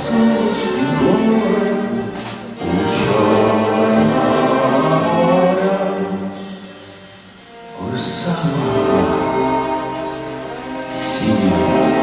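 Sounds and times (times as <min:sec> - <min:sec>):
choir-like sustained voices: 0:00.0 - 0:12.0
orchestral accompaniment: 0:00.0 - 0:12.0.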